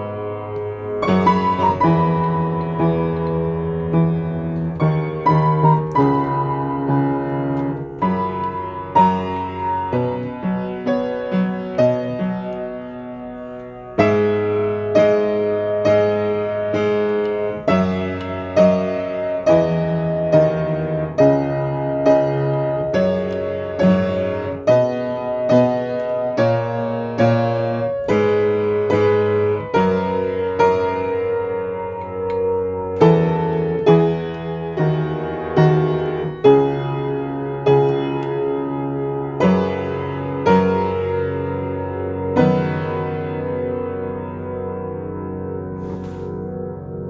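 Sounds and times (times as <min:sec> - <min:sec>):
solo piano ballad: 0:00.0 - 0:47.0.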